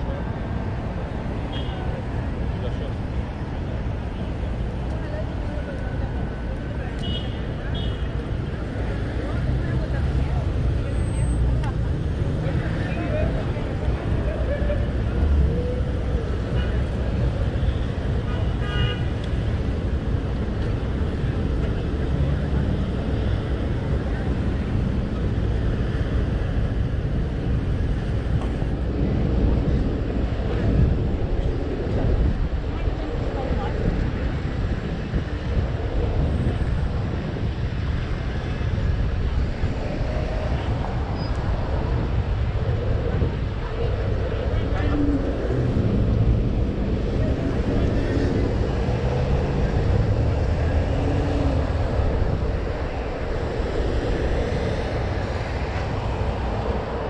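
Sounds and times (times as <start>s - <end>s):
road noise from bike ride: 0.0s - 57.0s
traffic noise: 0.0s - 57.0s
wind rumble on microphone: 0.0s - 57.0s.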